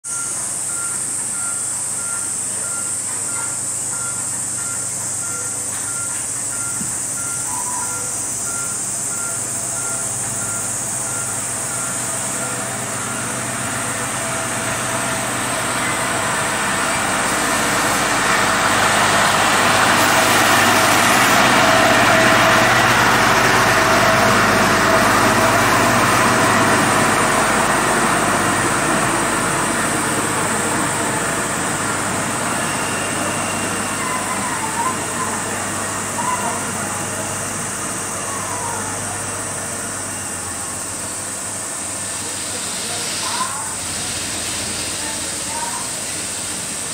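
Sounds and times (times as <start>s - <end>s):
diesel locomotive passing: 0.1s - 46.9s.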